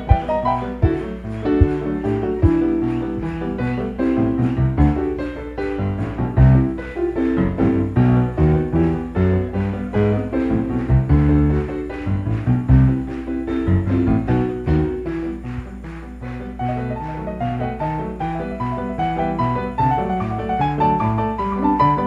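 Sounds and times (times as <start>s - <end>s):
piano keyboard chords: 0.0s - 22.0s.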